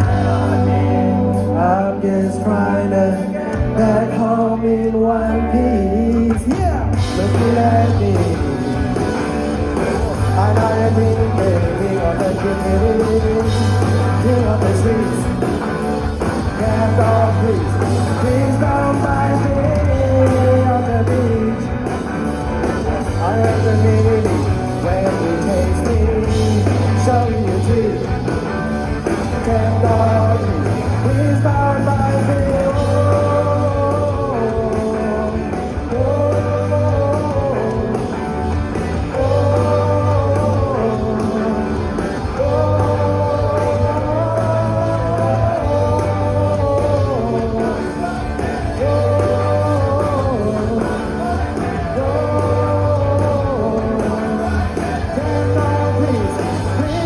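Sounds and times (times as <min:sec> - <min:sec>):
person singing: 0:00.0 - 0:09.0, 0:09.7 - 0:15.6, 0:16.4 - 0:21.9, 0:23.1 - 0:28.4, 0:29.0 - 0:57.0
rock band playing live: 0:00.0 - 0:57.0.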